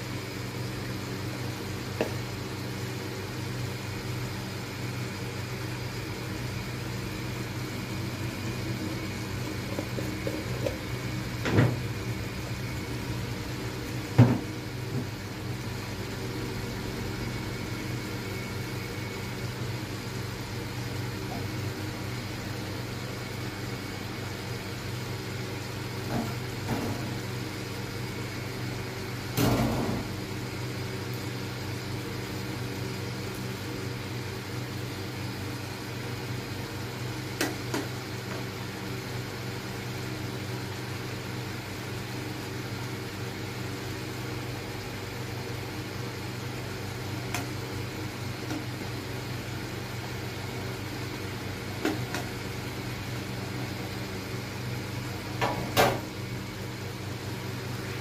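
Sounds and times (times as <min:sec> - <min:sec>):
induction cooktop humming: 0:00.0 - 0:58.0.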